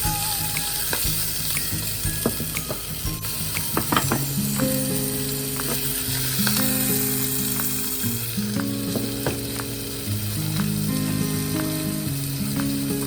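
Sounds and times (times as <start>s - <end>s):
food sizzling in a pan: 0.0s - 13.0s
slow held chords music: 0.0s - 13.0s.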